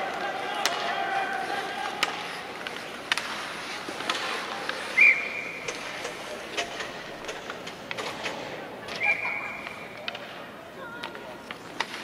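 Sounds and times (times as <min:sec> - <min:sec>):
hockey sticks and puck knocking: 0:00.0 - 0:12.0.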